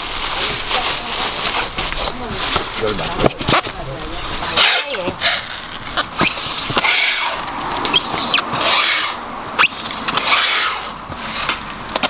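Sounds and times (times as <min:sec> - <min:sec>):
crinkly rustling of corn husks: 0:00.0 - 0:10.1.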